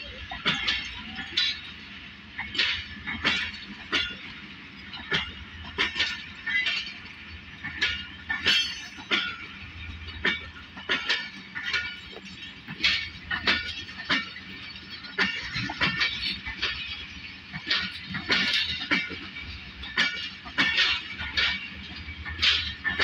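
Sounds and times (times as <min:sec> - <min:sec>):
train wheels clicking over rail joints: 0:00.0 - 0:23.0.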